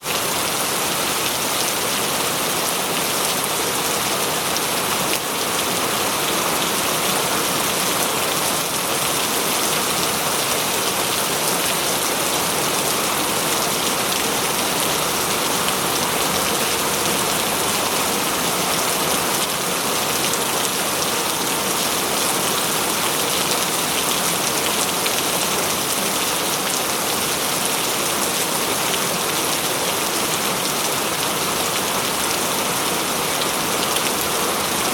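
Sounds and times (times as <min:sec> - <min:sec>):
rain on foliage: 0:00.0 - 0:34.9.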